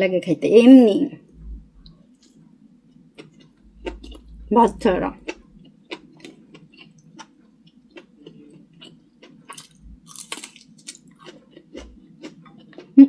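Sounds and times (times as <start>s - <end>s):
person chewing: 1.3s - 2.4s, 3.2s - 13.0s.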